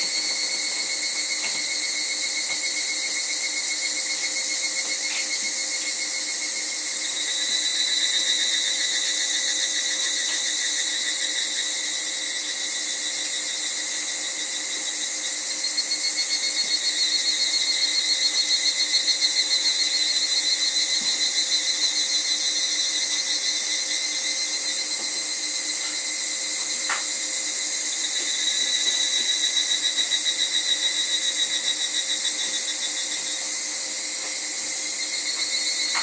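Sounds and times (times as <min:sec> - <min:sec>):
cicada drone: 0:00.0 - 0:36.0
evening cicadas pulsing calls: 0:00.0 - 0:36.0.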